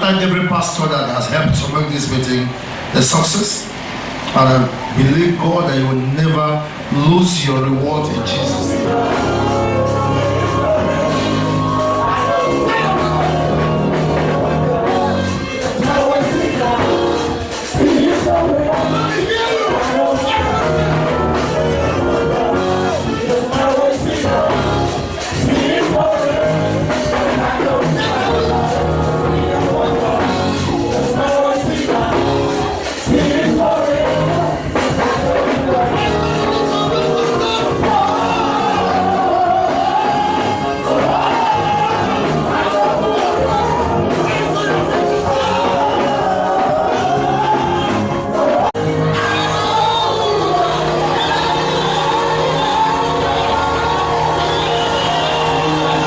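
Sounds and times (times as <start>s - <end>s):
gospel band music: 0.0s - 56.0s
voices singing: 0.0s - 56.0s.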